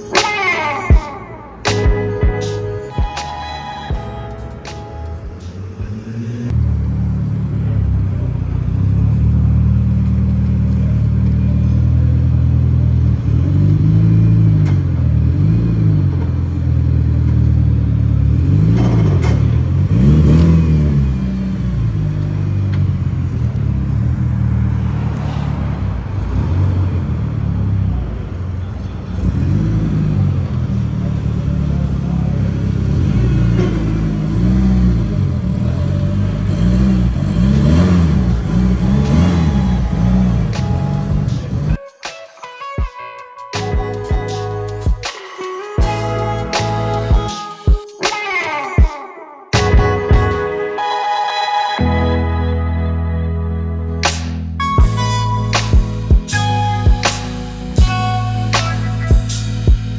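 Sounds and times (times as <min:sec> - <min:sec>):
car engine idling and revving: 0:01.6 - 0:41.8, 0:43.8 - 0:45.2, 0:45.8 - 0:47.3, 0:49.6 - 0:50.5, 0:53.8 - 0:59.9.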